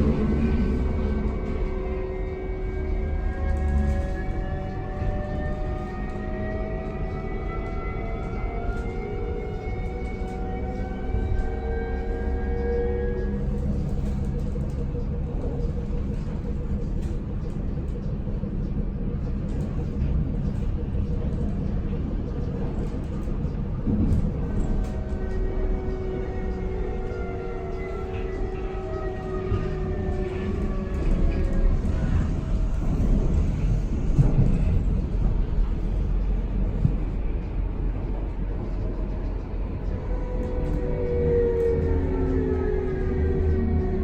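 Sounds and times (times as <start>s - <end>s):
subway train rumbling: 0.0s - 44.0s.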